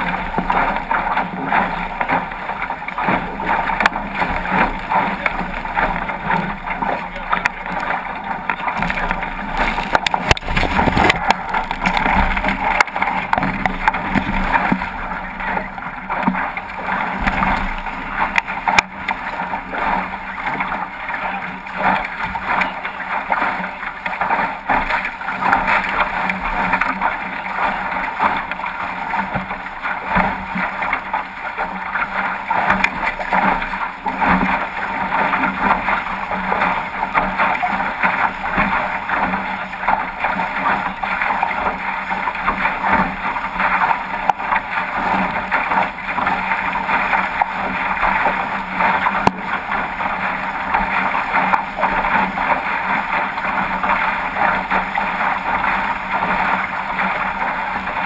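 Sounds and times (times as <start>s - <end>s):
water rushing along a hull: 0.0s - 58.0s
water slapping against boat: 0.0s - 58.0s.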